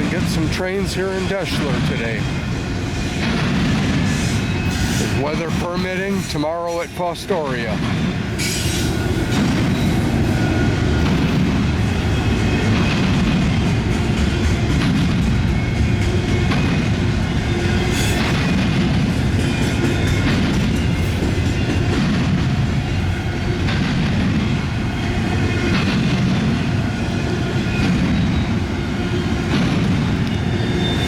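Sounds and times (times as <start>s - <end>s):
freight train rolling past: 0.0s - 31.0s
train wheel clacks: 0.0s - 31.0s.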